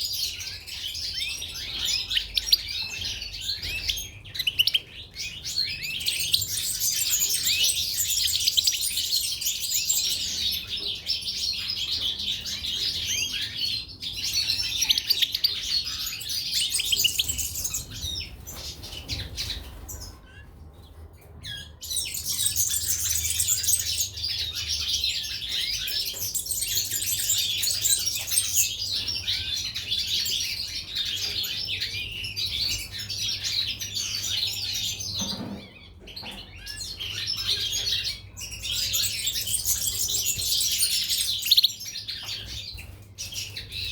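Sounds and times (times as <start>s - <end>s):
caged birds twittering: 0.0s - 43.9s.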